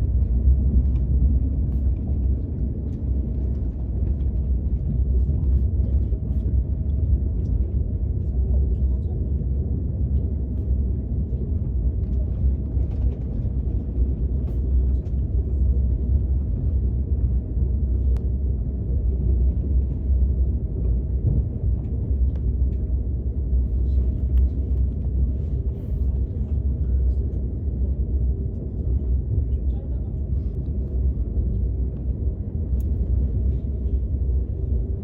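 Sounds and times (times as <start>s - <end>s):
train cabin rumble: 0.0s - 35.0s.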